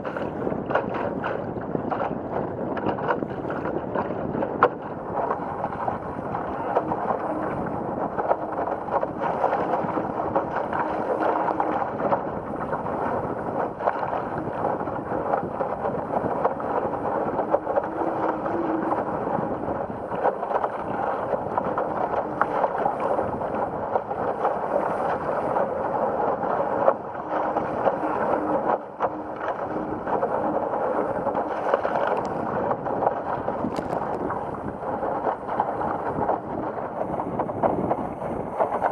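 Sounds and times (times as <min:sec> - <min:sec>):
rushing wind and water: 0:00.0 - 0:38.9
wind buffeting microphone: 0:00.0 - 0:38.9.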